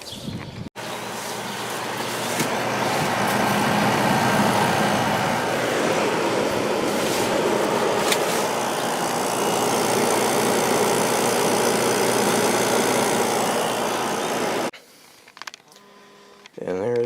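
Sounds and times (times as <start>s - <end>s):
air conditioner fan rushing: 0.8s - 14.7s
compressor running: 0.8s - 14.7s.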